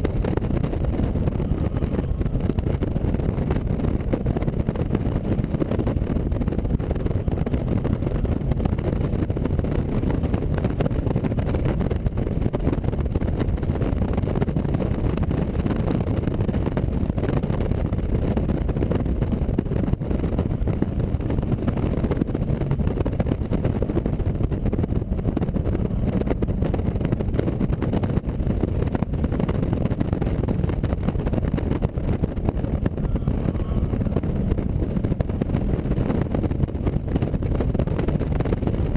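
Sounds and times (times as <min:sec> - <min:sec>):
car engine running: 0:00.0 - 0:38.9
wind buffeting microphone: 0:00.0 - 0:38.9.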